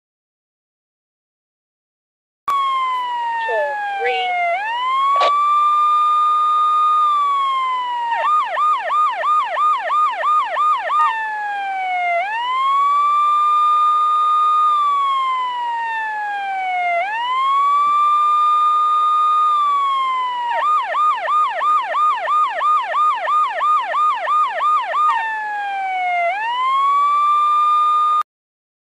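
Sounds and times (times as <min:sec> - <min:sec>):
police siren yelp: 0:02.5 - 0:28.2
police siren wail: 0:02.5 - 0:28.3.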